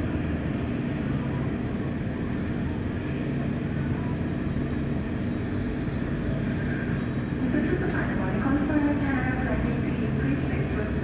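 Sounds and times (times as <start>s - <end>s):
faint constant hums: 0.0s - 11.0s
jet engines rumbling: 0.0s - 11.0s.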